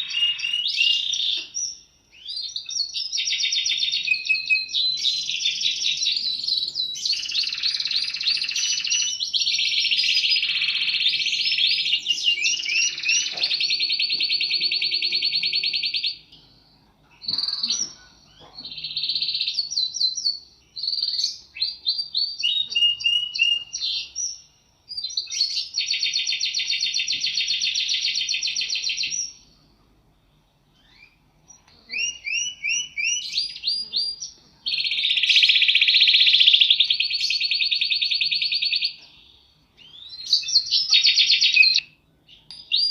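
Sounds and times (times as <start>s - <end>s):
canary singing trills: 0.0s - 29.8s, 30.4s - 42.9s.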